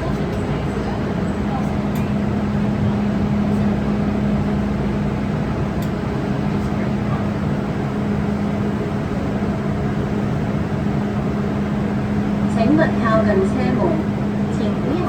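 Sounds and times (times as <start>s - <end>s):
train hum: 0.0s - 15.0s.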